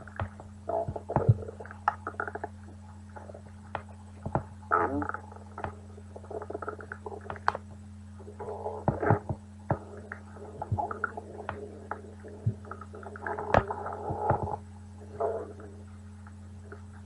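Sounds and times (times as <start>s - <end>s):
steady low hum: 0.0s - 17.0s
stomach growling and gurgling: 0.0s - 17.0s.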